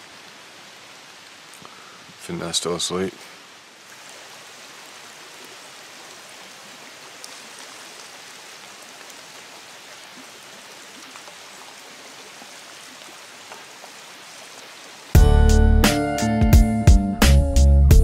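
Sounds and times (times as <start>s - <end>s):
stream running over stones: 0.0s - 15.2s.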